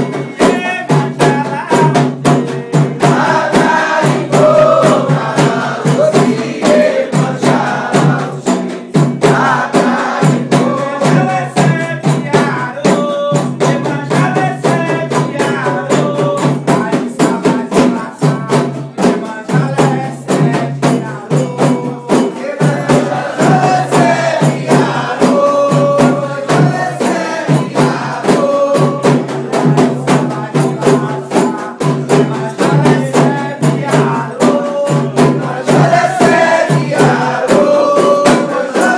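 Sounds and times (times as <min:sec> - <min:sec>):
driving drum and percussion: 0:00.0 - 0:38.9
voices singing: 0:00.0 - 0:38.9.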